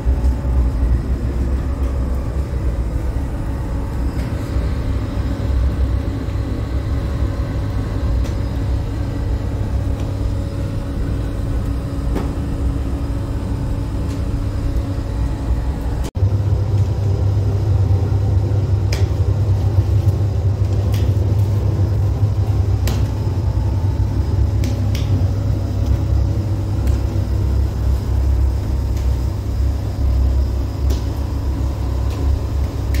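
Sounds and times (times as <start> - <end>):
oven low rumble: 0.0 - 33.0.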